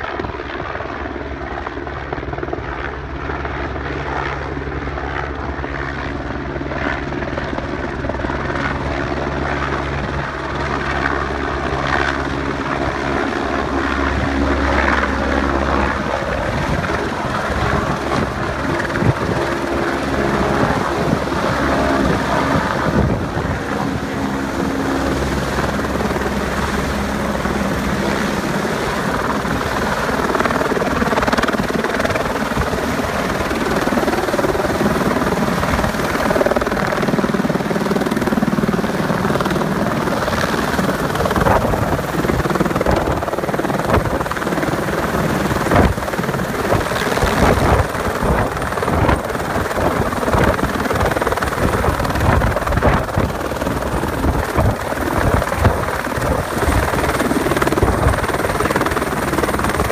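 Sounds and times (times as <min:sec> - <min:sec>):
helicopter engine whine: 0:00.0 - 0:59.9
helicopter rotor beating: 0:00.0 - 0:59.9.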